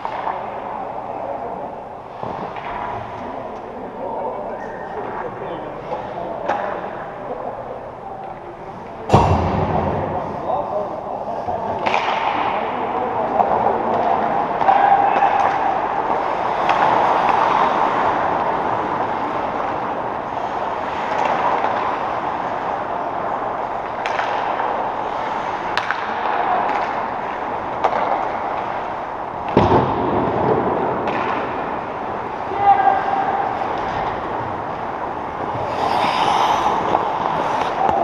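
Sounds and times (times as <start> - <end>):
echoing arena crowd din: 0.0 - 38.0.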